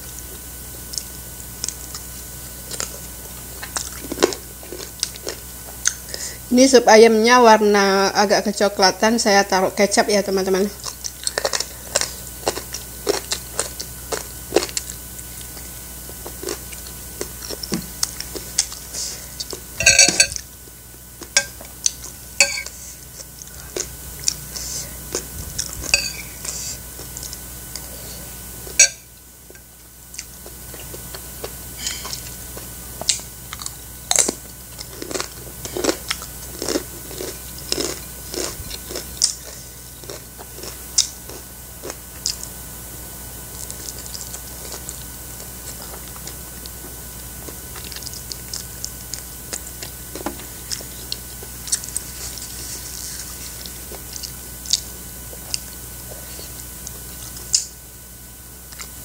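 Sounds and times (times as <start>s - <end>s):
person chewing meat: 0.2s - 6.2s, 10.8s - 20.5s, 21.1s - 28.8s, 29.5s - 42.7s, 43.4s - 57.7s.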